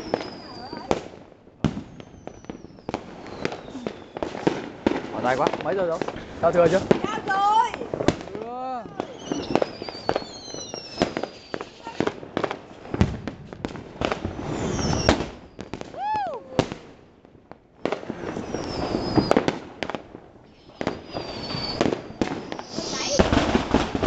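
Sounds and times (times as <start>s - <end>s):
firework whistles: 0.0s - 1.1s, 1.7s - 8.1s, 8.9s - 13.1s, 14.0s - 16.4s, 17.8s - 24.0s
firecrackers banging: 0.0s - 16.9s, 17.8s - 24.0s.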